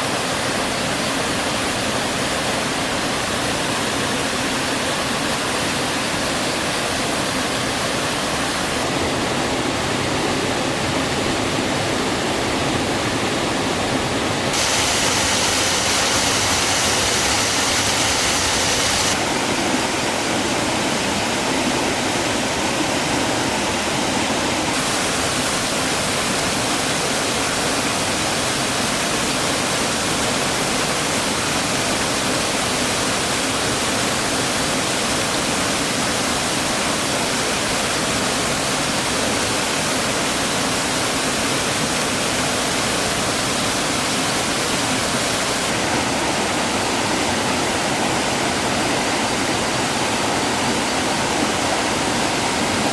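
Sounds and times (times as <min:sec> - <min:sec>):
rushing water of stream: 0:00.0 - 0:52.9.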